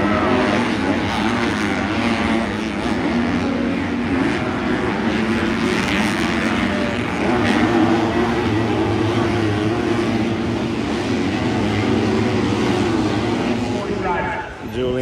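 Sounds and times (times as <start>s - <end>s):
motocross engines revving: 0.0s - 15.0s.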